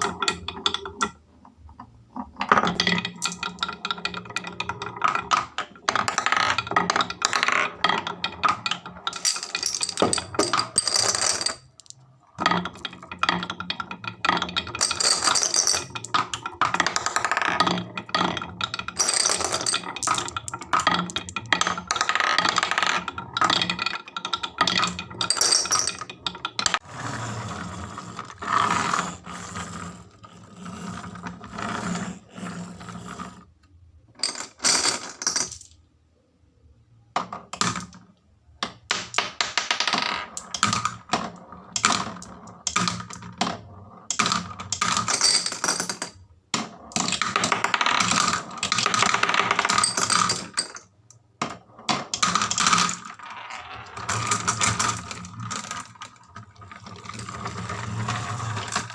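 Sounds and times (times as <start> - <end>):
marbles rolling down wooden slopes: 0.0 - 33.5, 34.2 - 35.7, 38.6 - 58.9.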